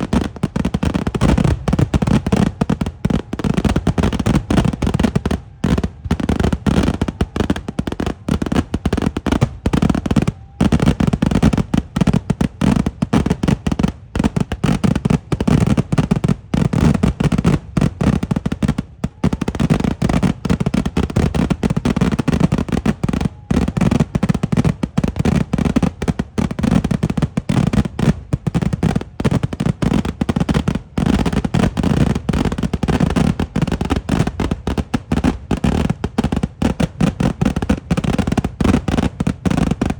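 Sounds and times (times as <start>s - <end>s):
rapid firecracker bangs: 0.0s - 39.9s.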